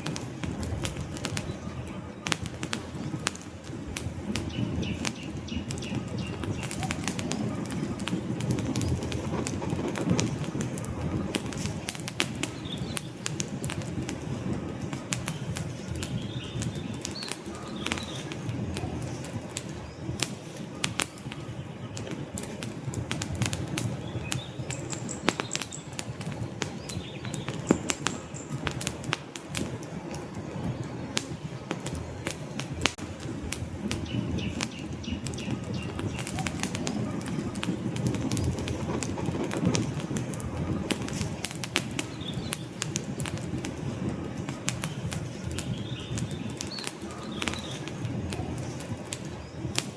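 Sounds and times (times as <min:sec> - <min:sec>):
fire flame rushing: 0:00.0 - 0:49.9
logs crackling and popping: 0:00.0 - 0:49.9.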